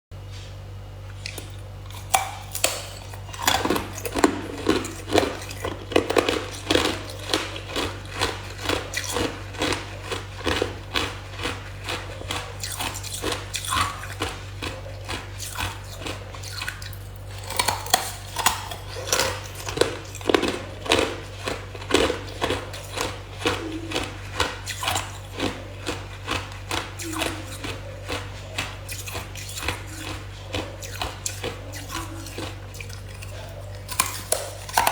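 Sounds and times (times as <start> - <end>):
ice being chewed: 1.0 - 34.9.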